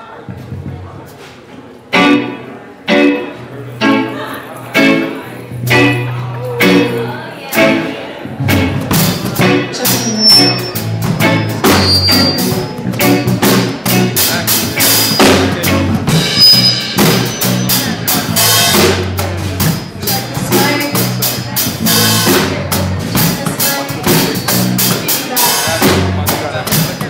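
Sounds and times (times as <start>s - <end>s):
live rock band playing: 1.8s - 27.0s
drum kit beating: 1.9s - 27.0s
low bass notes: 2.0s - 27.0s.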